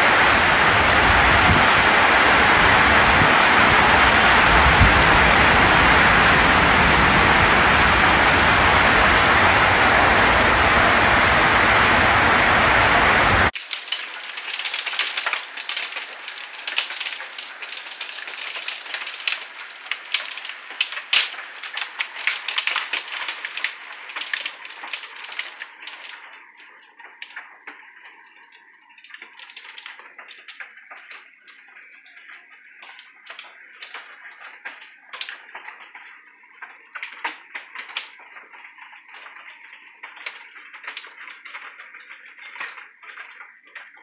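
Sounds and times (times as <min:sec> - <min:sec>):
hailstones tapping on window: 0:00.0 - 0:44.0
heavy hail downpour: 0:00.0 - 0:44.0.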